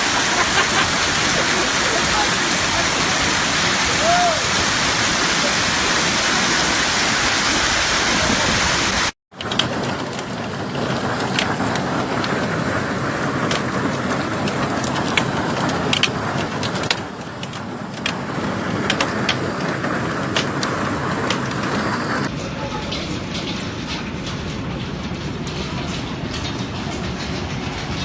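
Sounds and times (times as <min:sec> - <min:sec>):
hailstones clacking: 0:00.0 - 0:28.0
heavy hail and rain: 0:00.0 - 0:28.0.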